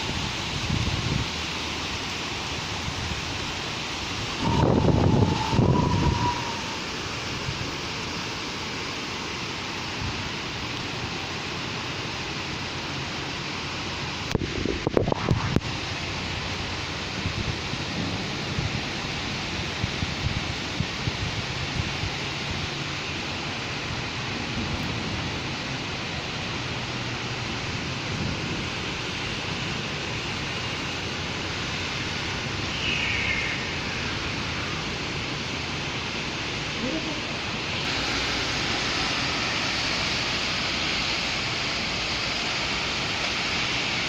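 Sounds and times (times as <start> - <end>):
low traffic rumble: 0.0 - 44.0
rain falling: 0.0 - 44.0.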